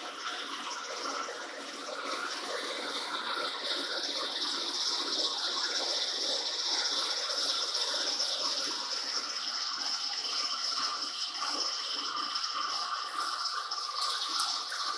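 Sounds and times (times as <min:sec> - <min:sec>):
coolant splashing: 0:00.0 - 0:14.9.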